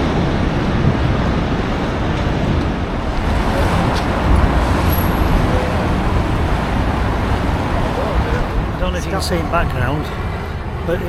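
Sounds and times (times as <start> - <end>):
passing road traffic: 0.0 - 11.0
wind buffeting microphone: 0.0 - 11.0.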